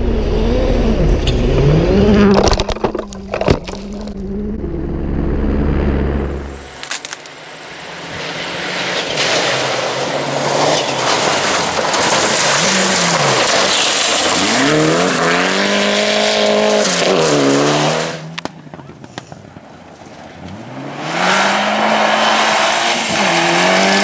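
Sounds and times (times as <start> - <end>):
rally car engine revving: 0.0 - 6.8, 7.5 - 19.1, 20.0 - 24.0
tyre and road noise: 0.0 - 24.0.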